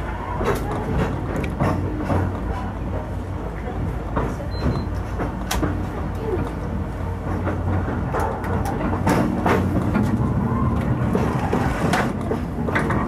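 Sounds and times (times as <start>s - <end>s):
train rumbling on track: 0.0s - 13.0s
wheels clicking over rails: 0.0s - 13.0s.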